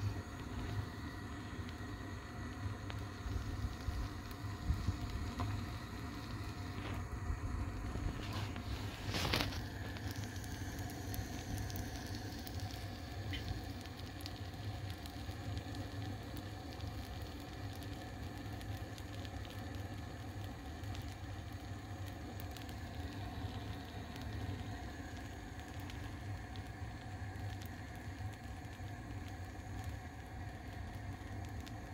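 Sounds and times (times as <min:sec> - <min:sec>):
batter crackling and bubbling: 0:00.0 - 0:31.9
gas burner flame: 0:00.0 - 0:31.9.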